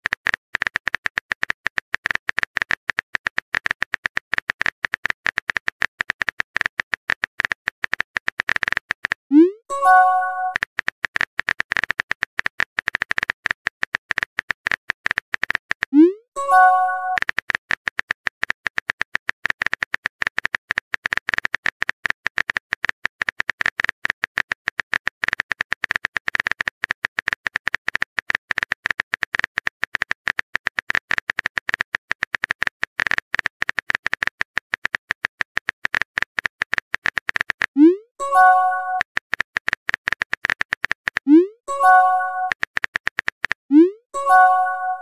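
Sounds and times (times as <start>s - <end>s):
phone keyboard typing clicks: 0.0s - 45.0s.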